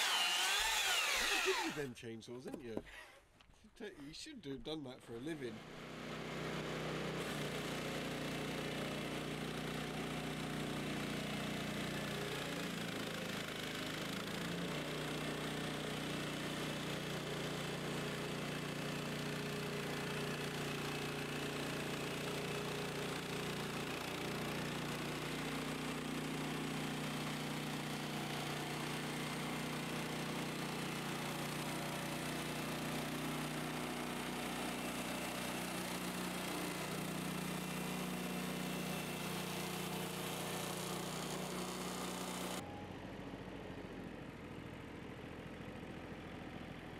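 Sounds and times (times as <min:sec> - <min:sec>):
chainsaw cutting log: 0:00.0 - 0:01.9, 0:05.5 - 0:42.6.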